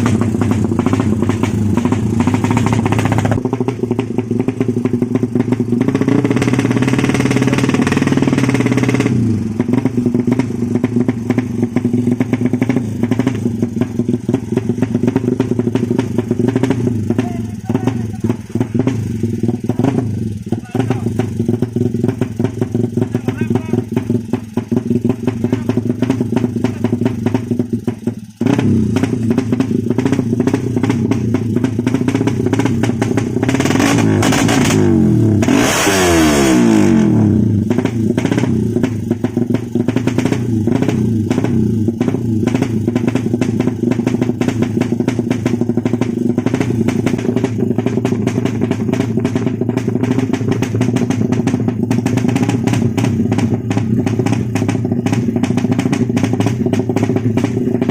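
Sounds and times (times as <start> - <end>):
motorcycle engine idling and revving: 0.0 - 57.9.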